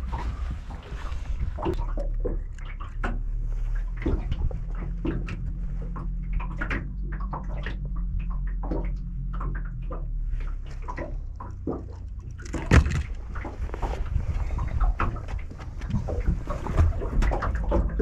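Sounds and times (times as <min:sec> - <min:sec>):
knocks and splashes in a boat: 0:00.0 - 0:18.0
low hum: 0:00.0 - 0:18.0
water sloshing: 0:00.0 - 0:18.0.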